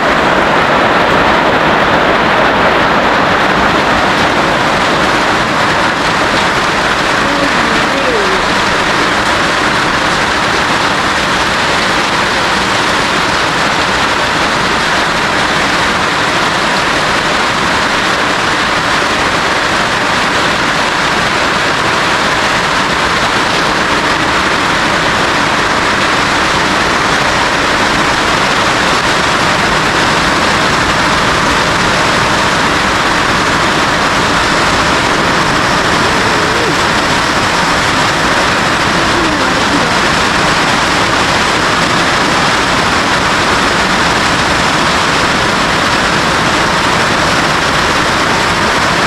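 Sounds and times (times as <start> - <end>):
heavy rain on a roof: 0.0 - 49.0.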